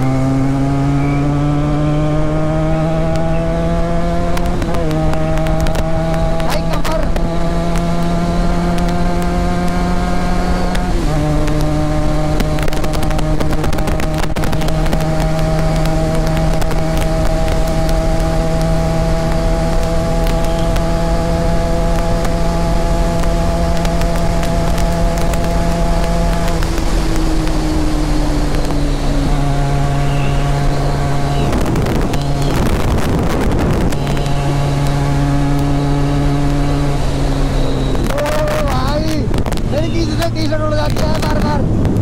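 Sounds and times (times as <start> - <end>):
motorcycle accelerating: 0.0 - 42.0.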